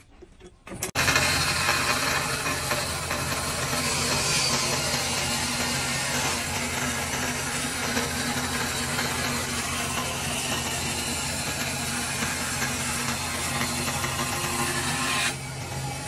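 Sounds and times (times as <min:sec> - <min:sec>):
bandsaw cutting wood: 0:00.8 - 0:16.0.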